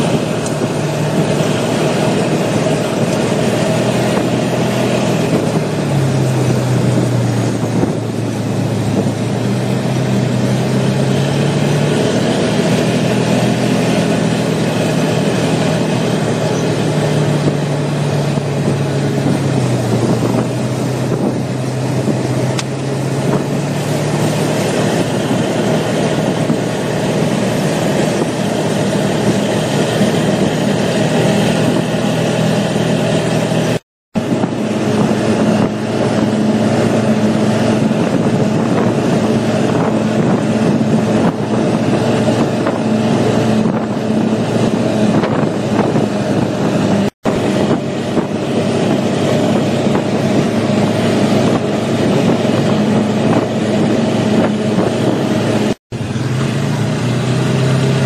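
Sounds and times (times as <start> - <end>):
quad bike engine running: 0.0 - 58.0
wind rushing over microphone: 0.0 - 58.0.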